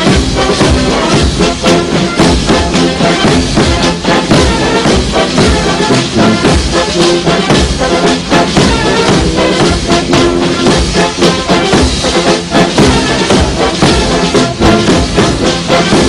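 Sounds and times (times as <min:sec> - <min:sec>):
brass band playing a march: 0:00.0 - 0:16.0
steady drum beat: 0:00.0 - 0:16.0.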